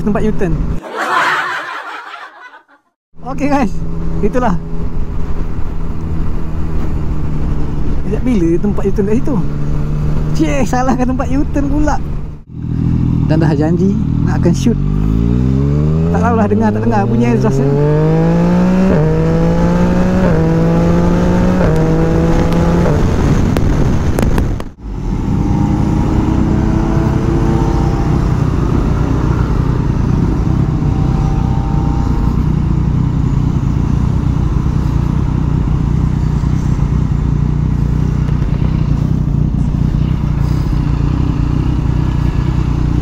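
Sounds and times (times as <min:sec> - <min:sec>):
motorcycle engine accelerating: 0:03.7 - 0:43.0.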